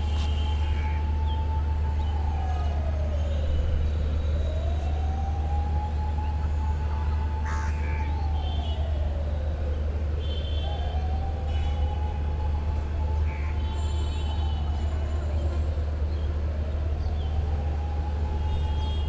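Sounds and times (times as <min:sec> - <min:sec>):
low rumble of city traffic: 0:00.0 - 0:19.0.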